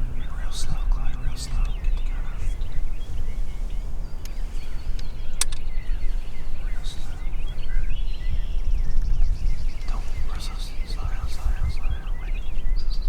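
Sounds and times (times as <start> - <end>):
steady low rumble: 0.0 - 13.0
wild birds chirping: 0.0 - 13.0.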